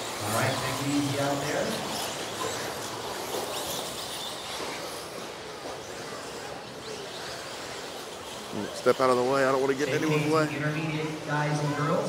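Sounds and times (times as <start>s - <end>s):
rc buggies racing: 0.0s - 12.0s.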